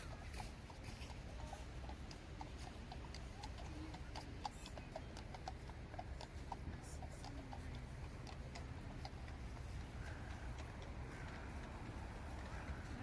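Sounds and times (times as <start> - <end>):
clicking steps on pavement: 0.0 - 13.0
low city rumble: 0.0 - 13.0.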